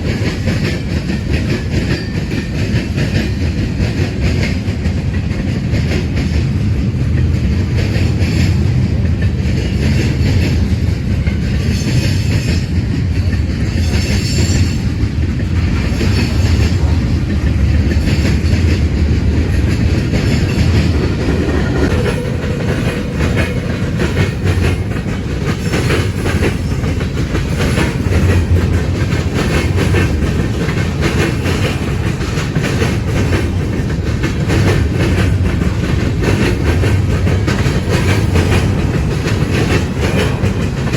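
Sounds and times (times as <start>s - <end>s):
freight train rumbling past: 0.0s - 40.9s
wheels clicking over rail joints: 0.0s - 40.9s.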